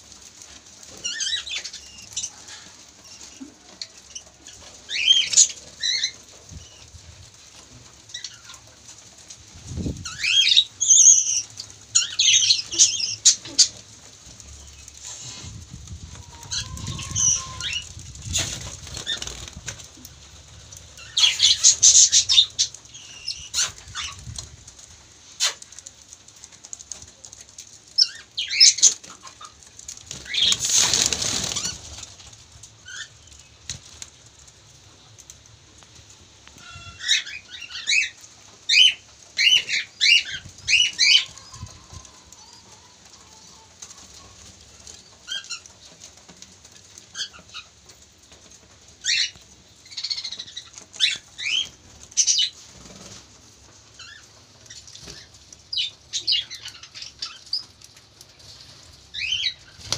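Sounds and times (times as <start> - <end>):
wing flapping: 0.0 - 36.2, 37.4 - 59.9.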